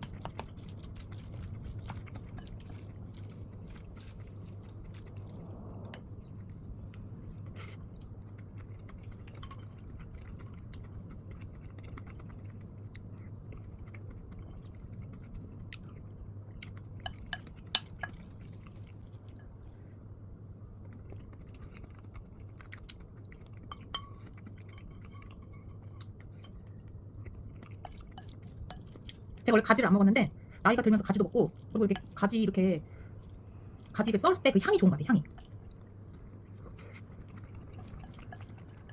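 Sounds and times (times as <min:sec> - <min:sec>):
chewing food: 0:00.0 - 0:38.9
low hum: 0:00.0 - 0:38.9.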